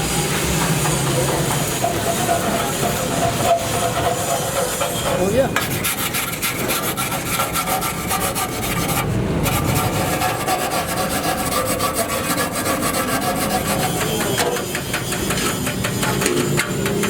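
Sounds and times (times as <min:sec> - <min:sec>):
hand tool scraping hard surface: 0:00.2 - 0:17.0.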